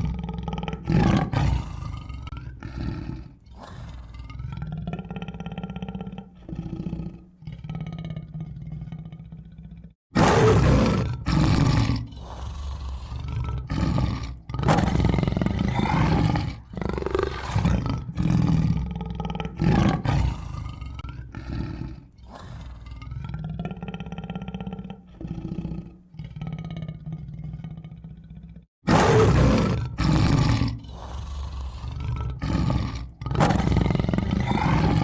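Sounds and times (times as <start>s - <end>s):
tiger roaring and growling: 0.0s - 35.0s.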